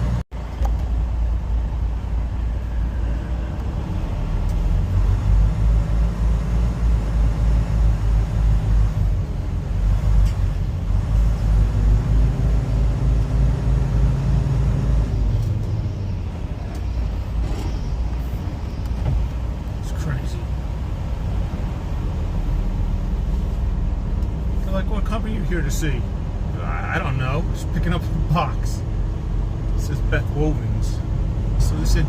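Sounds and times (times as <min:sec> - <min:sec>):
truck diesel engine rumbling: 0:00.0 - 0:32.0.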